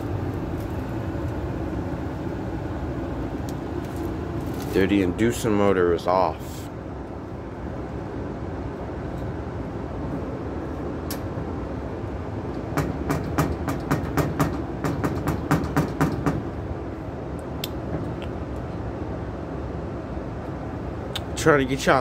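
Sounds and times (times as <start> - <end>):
furnace blower running: 0.0 - 21.0.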